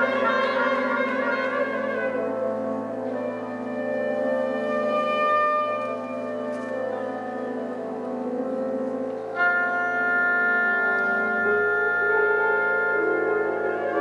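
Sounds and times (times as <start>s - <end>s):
chamber quartet sustained tones: 0.0s - 14.0s.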